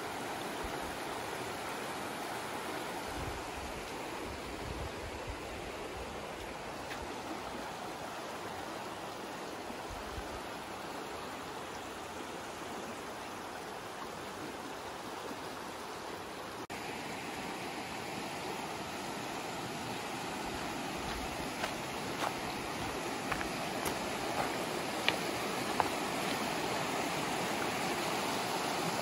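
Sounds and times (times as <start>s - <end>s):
creek rushing over gravel: 0.0s - 15.4s, 16.7s - 29.0s.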